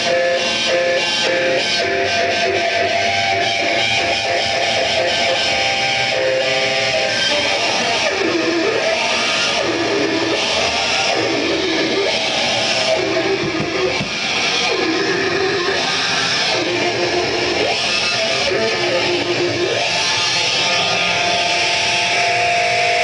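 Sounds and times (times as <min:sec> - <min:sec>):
distorted electric guitar riff: 0:00.0 - 0:23.0
heavy metal music: 0:00.0 - 0:23.0.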